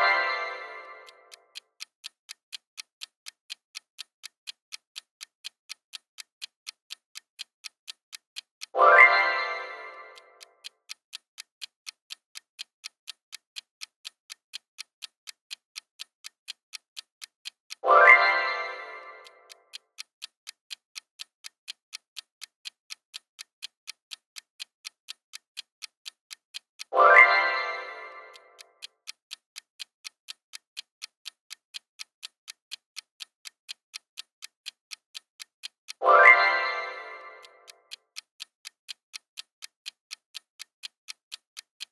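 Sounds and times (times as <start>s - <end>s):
clock ticking: 0.0s - 41.9s.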